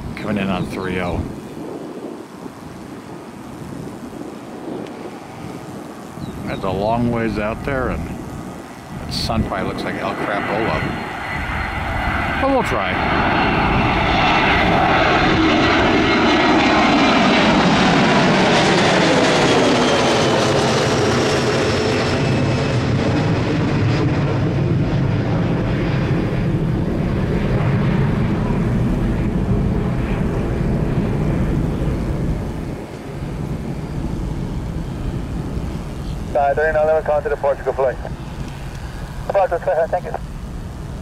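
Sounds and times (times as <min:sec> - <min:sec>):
jet airliner passing: 0:00.0 - 0:41.0.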